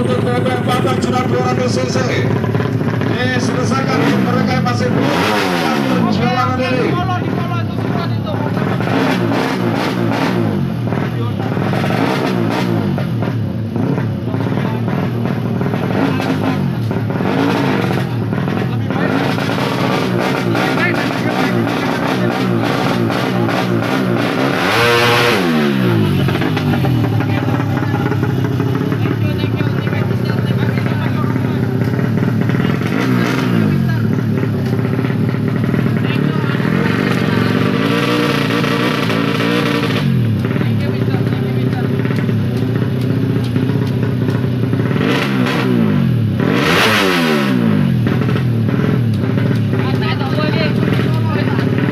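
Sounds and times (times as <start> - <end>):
motorcycle revving past: 0.0 - 6.9, 14.9 - 51.9
engine noise: 0.0 - 51.9.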